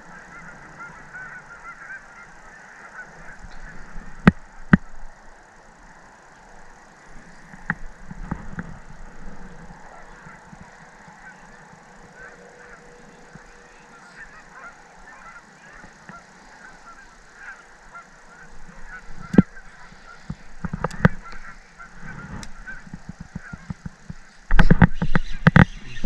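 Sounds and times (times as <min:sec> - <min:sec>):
distant geese honking: 0:00.0 - 0:26.0.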